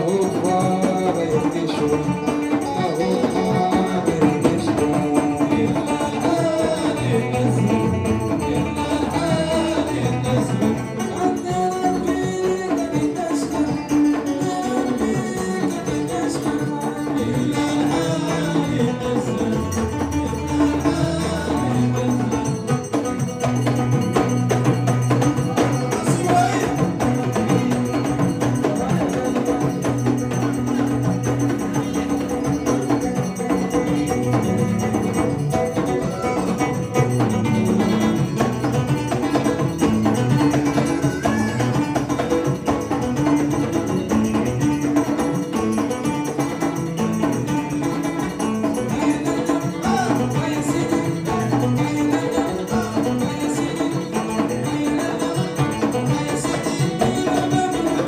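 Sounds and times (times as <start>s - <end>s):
electric guitar: 0.0s - 58.0s
frame drum beating: 0.0s - 58.0s
man singing: 0.0s - 58.0s.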